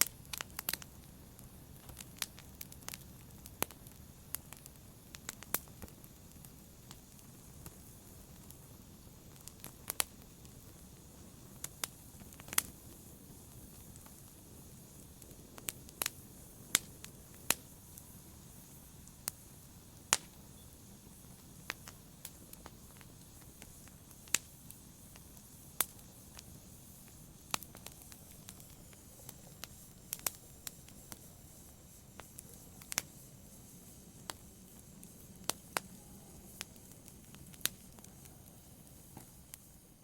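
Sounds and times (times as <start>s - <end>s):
low steady hiss: 0.0s - 40.0s
wood fire crackling: 0.0s - 40.0s.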